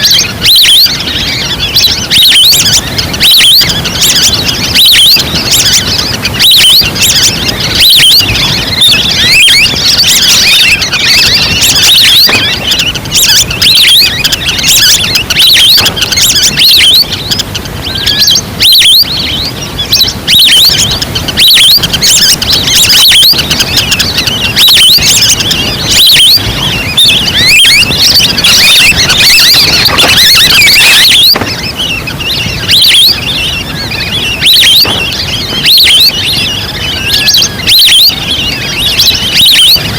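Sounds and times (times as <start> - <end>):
recorded duck calls: 0.0 - 39.9.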